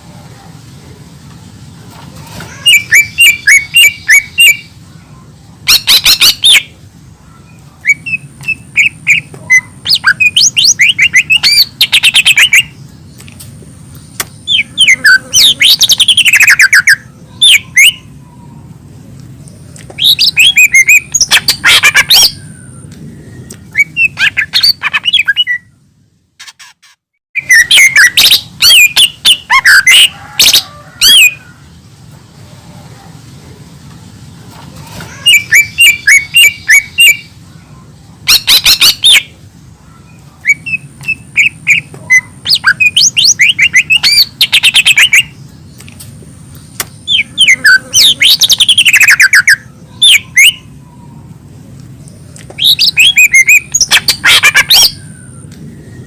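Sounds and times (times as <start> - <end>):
bird singing: 2.5 - 26.6, 27.4 - 32.4, 35.0 - 56.0.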